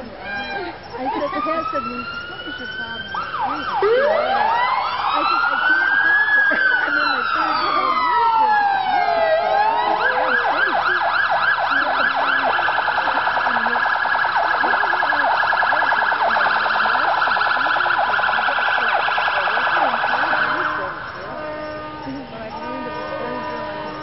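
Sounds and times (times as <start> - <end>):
electronic siren wailing and yelping: 0.2 - 21.4.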